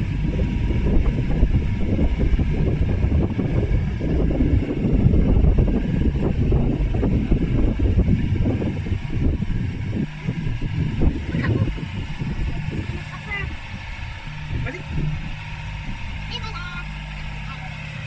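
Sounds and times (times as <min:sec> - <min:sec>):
diesel engine low rumble: 0:00.0 - 0:18.0.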